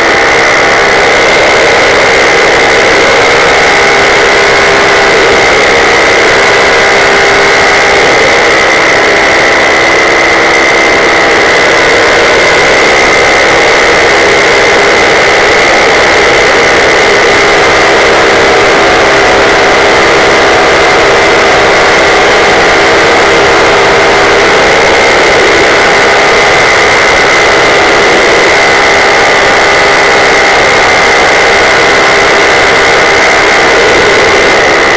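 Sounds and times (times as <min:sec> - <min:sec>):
paramotor engine and propeller: 0:00.0 - 0:34.9.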